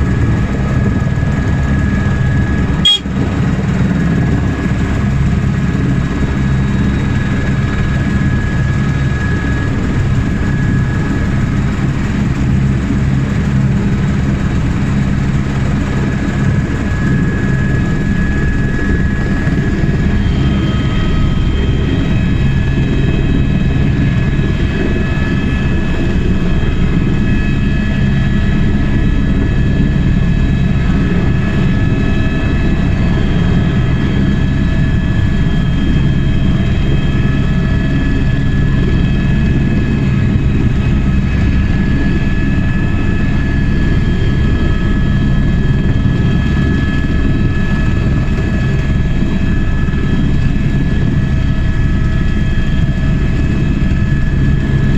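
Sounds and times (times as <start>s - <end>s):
helicopter rotor rumble: 0.0s - 54.9s
high turbine whine: 0.0s - 54.9s.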